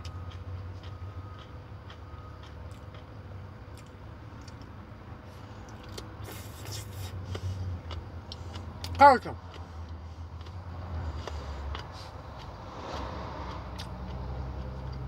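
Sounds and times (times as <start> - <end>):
person chewing: 0.0 - 15.0
steady low hum: 0.0 - 15.0.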